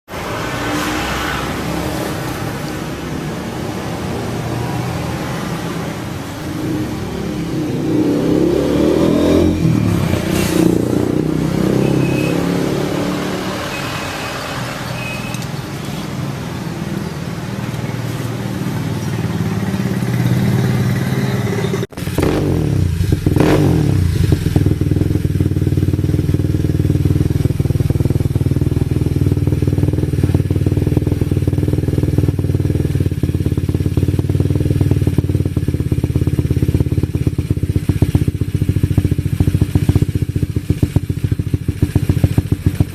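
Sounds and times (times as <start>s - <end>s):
scooter engine running: 1.4s - 42.9s.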